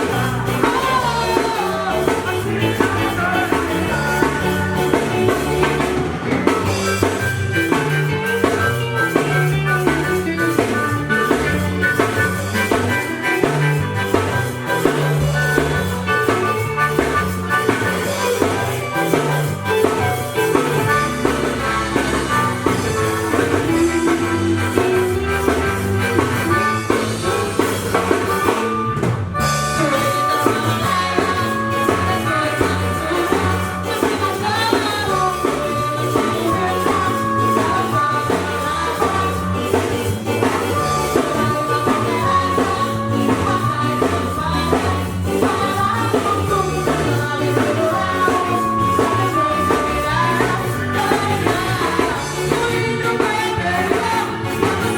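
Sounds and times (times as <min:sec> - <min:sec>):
drum kit beat: 0:00.0 - 0:54.9
ska band playing live: 0:00.0 - 0:54.9.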